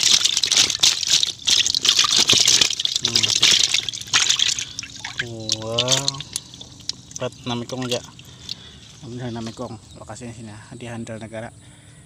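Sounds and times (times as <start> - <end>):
water splashing in a plastic tub: 0.0 - 9.8.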